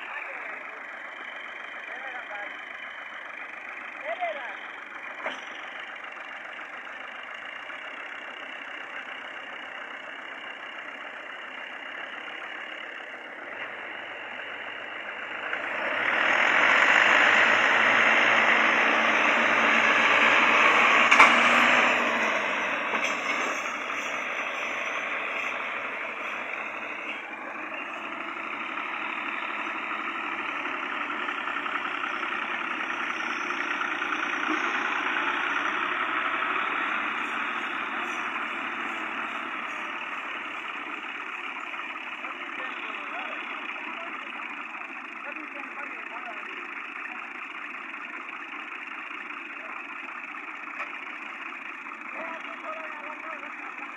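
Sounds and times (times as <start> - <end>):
tractor engines running: 0.0 - 53.9.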